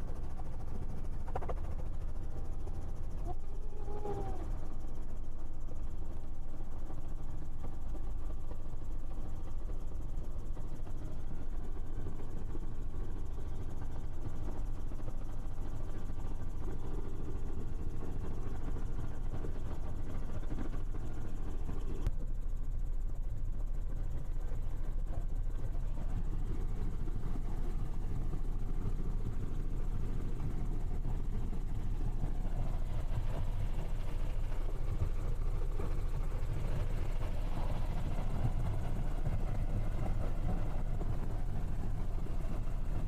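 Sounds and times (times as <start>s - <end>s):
helicopter cabin drone: 0.0s - 43.0s.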